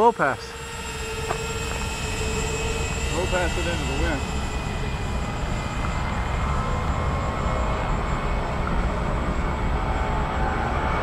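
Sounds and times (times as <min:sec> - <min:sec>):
electric fans whining: 0:00.0 - 0:11.0.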